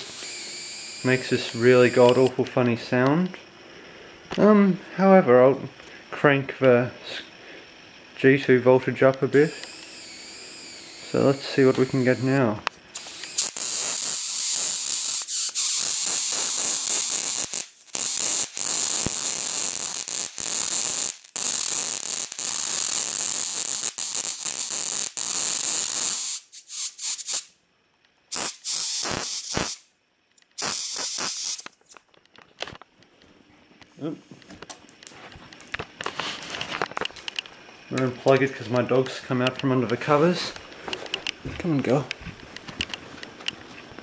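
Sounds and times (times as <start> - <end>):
high-voltage arc sizzling hiss: 0.0 - 27.6, 28.3 - 32.0, 35.8 - 42.6.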